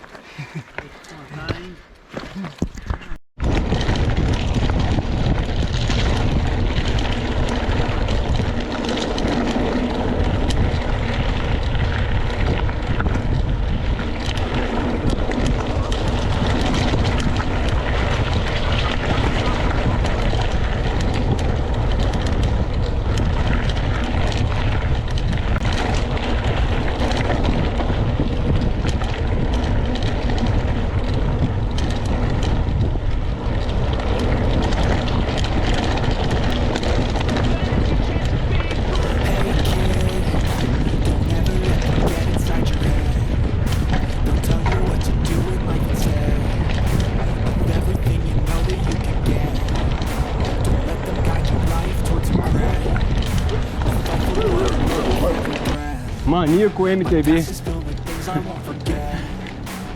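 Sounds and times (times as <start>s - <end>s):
wind buffeting microphone: 1.4s - 59.9s
bike rumbling and rattling: 2.0s - 58.2s.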